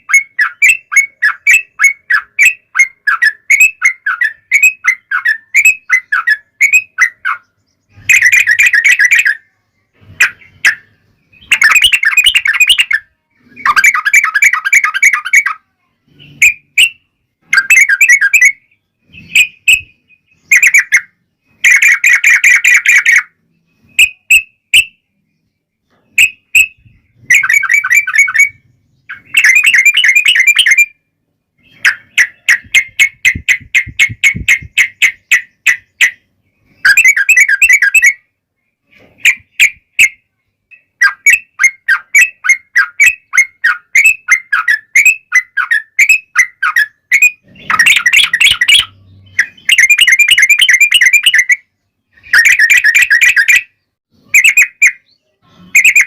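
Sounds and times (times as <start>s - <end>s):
birds chattering song: 0.0s - 56.0s.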